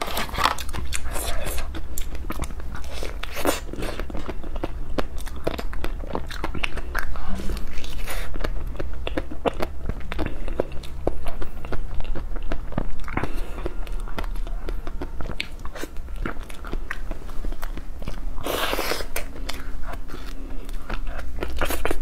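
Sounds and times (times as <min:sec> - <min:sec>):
chewing ice cream with crunches: 0:00.0 - 0:22.0.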